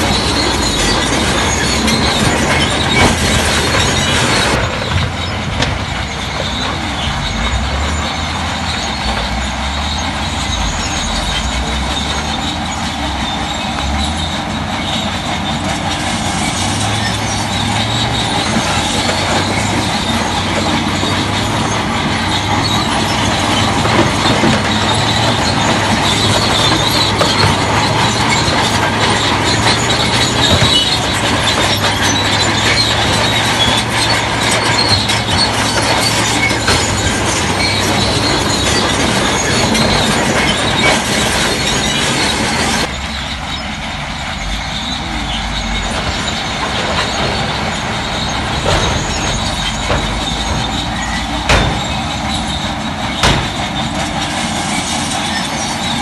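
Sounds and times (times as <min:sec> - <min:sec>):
diesel engine under load: 0:00.0 - 0:56.0
steel tracks clanking and squealing: 0:00.0 - 0:56.0.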